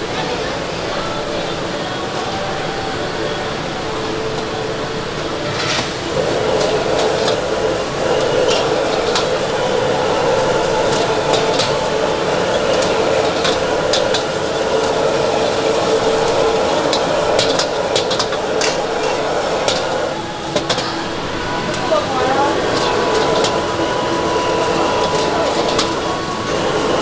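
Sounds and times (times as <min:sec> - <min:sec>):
gas burner: 0:00.0 - 0:27.0
food frying in a wok: 0:05.1 - 0:27.0.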